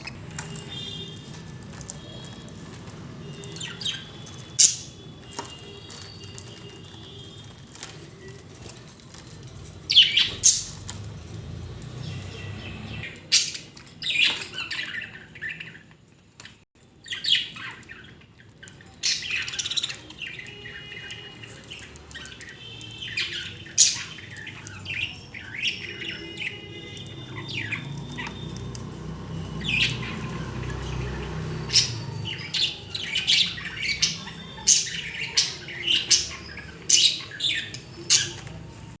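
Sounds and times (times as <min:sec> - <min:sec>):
budgerigars chirping and squawking: 0:00.0 - 0:11.0, 0:12.1 - 0:16.0, 0:17.1 - 0:38.6.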